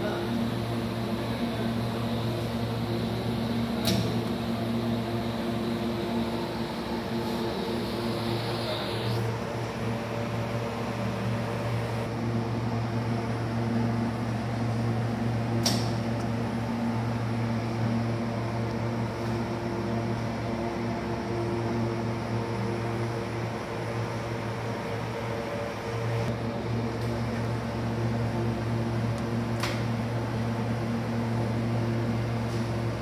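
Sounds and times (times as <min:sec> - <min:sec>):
fan noise and electrical hum: 0:00.0 - 0:33.0.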